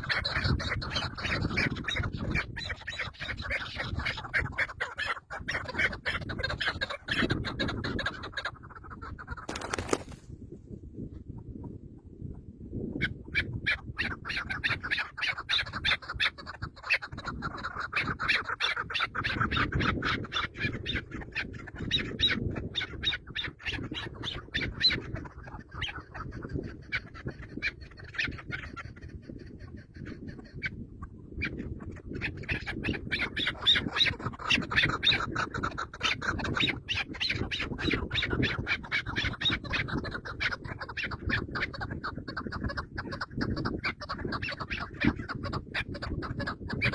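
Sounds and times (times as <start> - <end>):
birds squawking: 0.0 - 10.1, 13.0 - 46.9.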